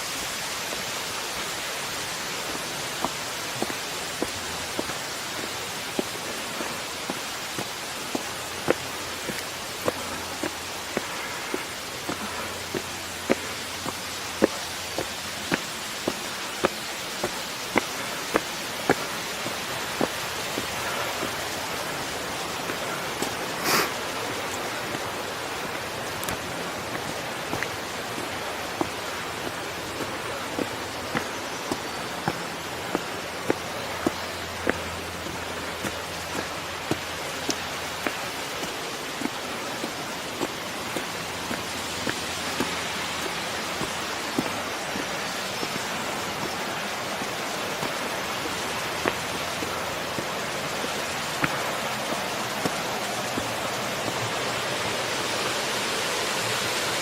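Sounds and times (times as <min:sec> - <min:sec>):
watery hiss: 0:00.0 - 0:57.0
footsteps on hard path: 0:00.7 - 0:56.1.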